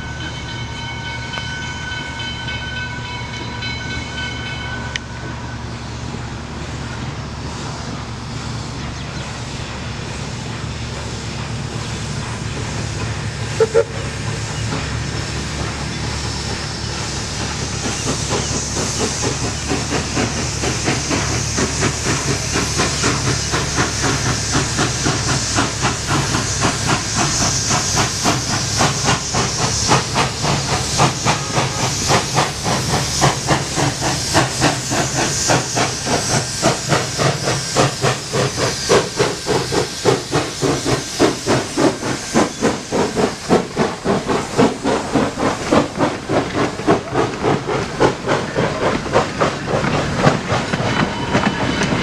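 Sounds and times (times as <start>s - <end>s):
steady steam hiss: 0.0s - 52.0s
steam locomotive exhaust chuffs: 0.0s - 52.0s.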